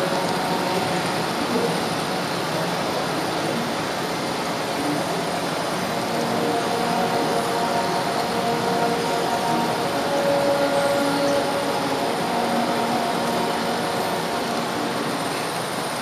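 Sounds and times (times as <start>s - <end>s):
faint motor whine: 0.0s - 16.0s
wheels rolling on rail: 0.0s - 16.0s.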